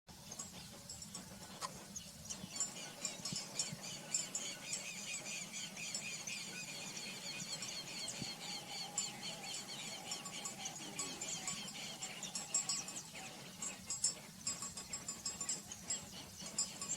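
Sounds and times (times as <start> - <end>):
birds chirping and trilling: 0.1 - 16.9.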